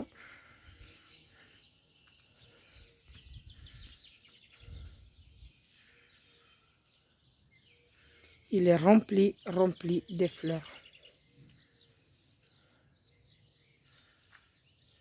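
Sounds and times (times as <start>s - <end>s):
faint distant birds chirping: 0.0s - 15.0s.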